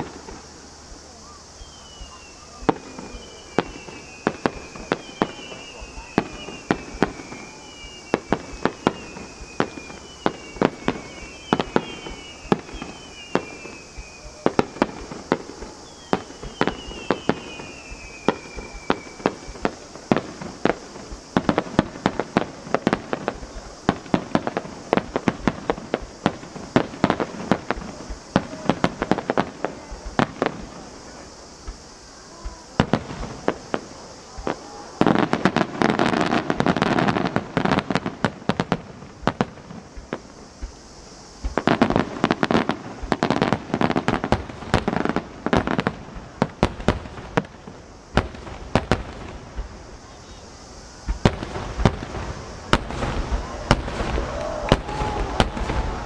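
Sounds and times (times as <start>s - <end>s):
falling firework whistles: 0.0s - 56.0s
fireworks bursts and bangs: 0.0s - 56.0s.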